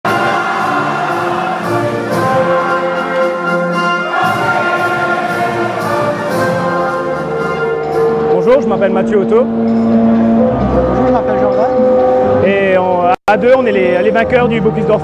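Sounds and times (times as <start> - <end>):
orchestral music with choir and brass: 0.0 - 12.5.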